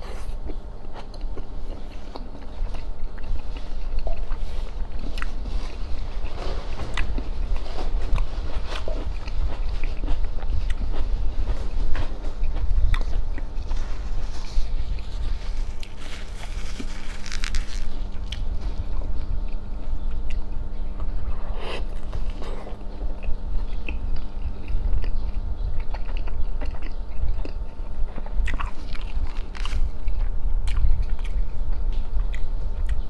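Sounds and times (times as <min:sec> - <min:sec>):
wet chewing: 0:00.1 - 0:33.0.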